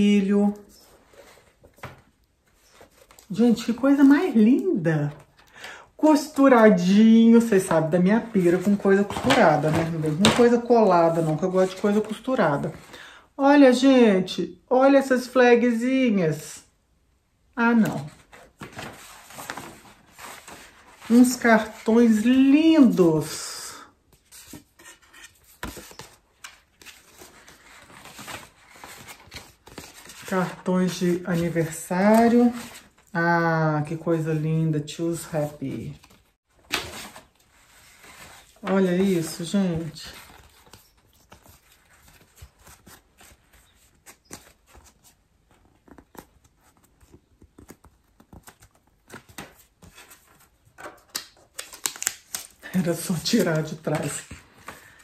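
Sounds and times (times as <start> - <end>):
paper rustling: 0.0 - 12.9, 17.8 - 23.0, 24.0 - 33.1, 35.2 - 55.0.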